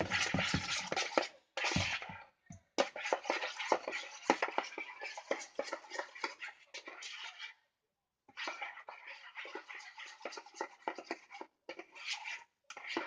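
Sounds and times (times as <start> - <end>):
tool scraping and knocking a bowl: 0.0 - 7.5, 8.3 - 13.0.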